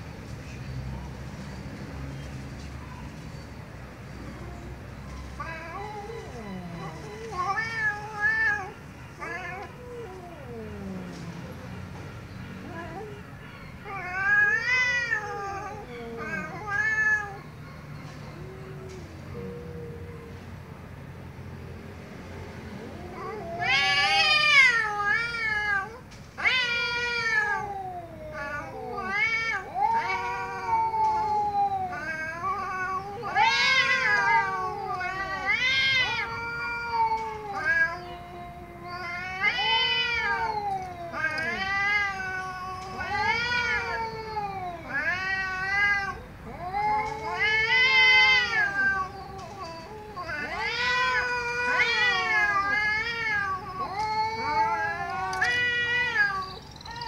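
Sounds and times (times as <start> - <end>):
cats yowling: 0.9 - 21.6, 22.6 - 57.0.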